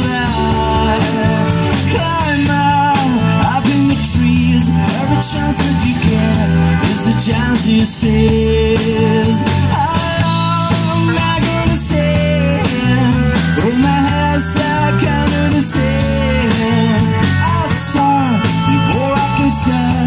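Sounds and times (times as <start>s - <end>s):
live rock band: 0.0s - 20.0s.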